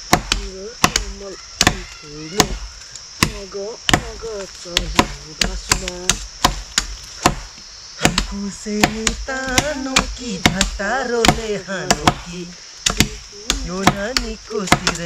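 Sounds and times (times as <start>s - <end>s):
blade chopping wood: 0.0s - 2.6s, 3.2s - 15.0s.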